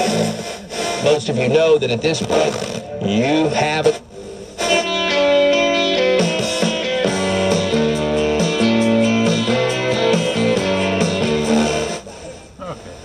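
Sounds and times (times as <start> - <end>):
music from radio speakers: 0.0 - 13.0.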